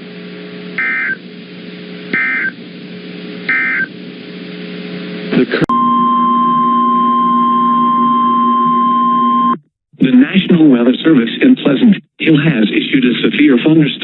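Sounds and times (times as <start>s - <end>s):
broadcast hum: 0.0s - 14.0s.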